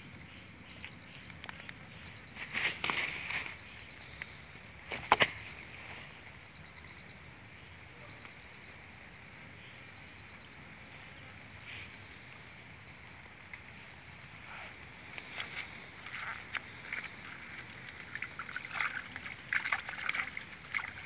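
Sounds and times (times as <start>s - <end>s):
faint insect chirring: 0.0s - 21.0s.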